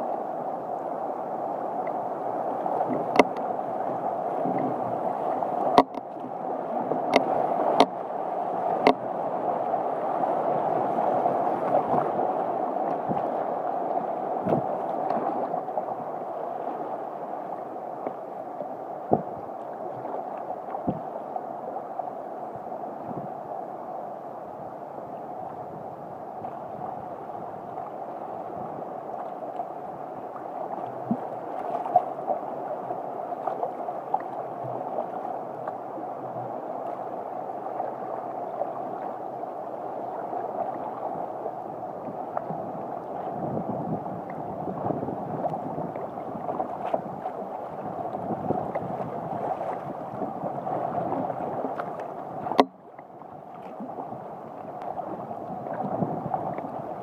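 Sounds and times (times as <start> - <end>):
water splashing against kayak: 0.0 - 57.0.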